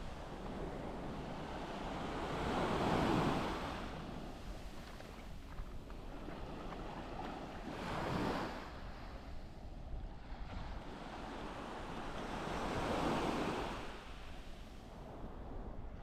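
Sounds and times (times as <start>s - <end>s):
small waves breaking on beach: 0.0s - 15.7s
wind: 0.0s - 16.0s.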